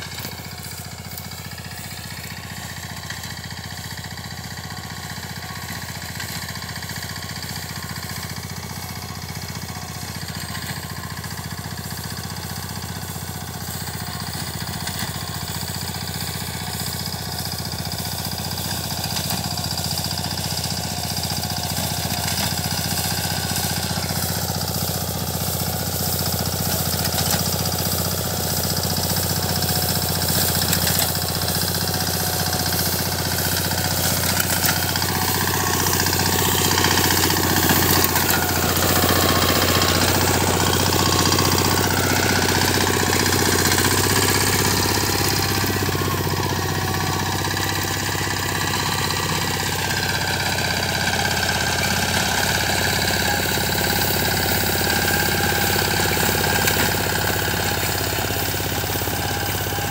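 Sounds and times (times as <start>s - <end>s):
machine engine running: 0.0s - 59.9s.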